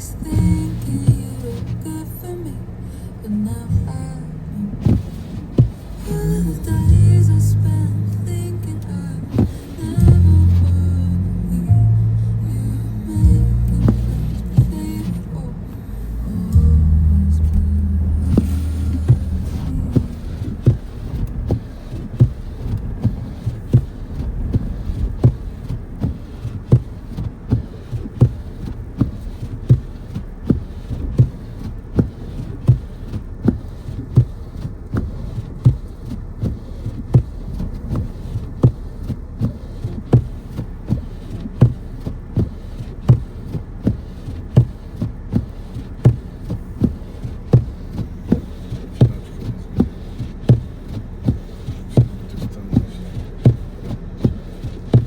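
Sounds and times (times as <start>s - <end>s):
regular low thumps: 0.0s - 55.0s
steady low rumble: 0.0s - 55.0s.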